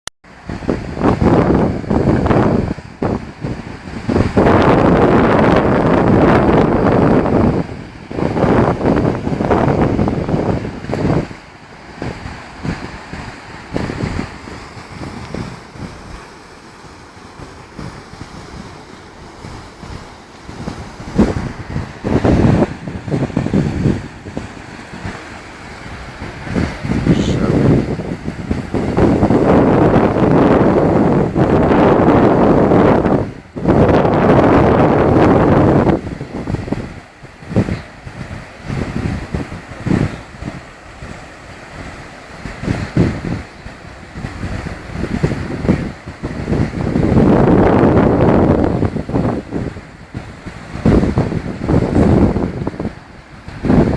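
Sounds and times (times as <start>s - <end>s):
wind gusting on microphone: 0.3s - 53.9s.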